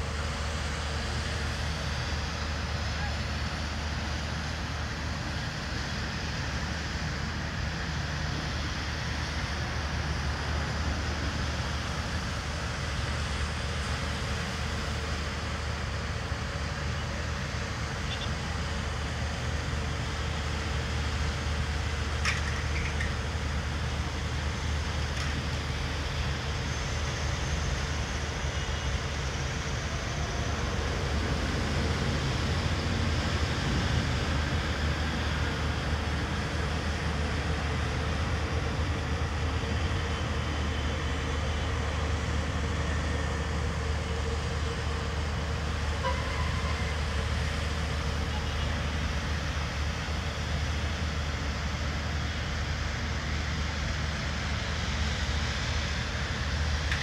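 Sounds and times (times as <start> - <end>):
low traffic rumble: 0.0 - 57.0.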